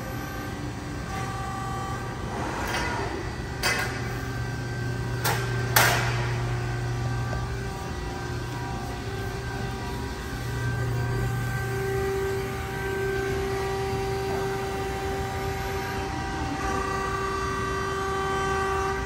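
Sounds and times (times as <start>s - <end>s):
hydraulic press low hum: 0.0s - 19.0s.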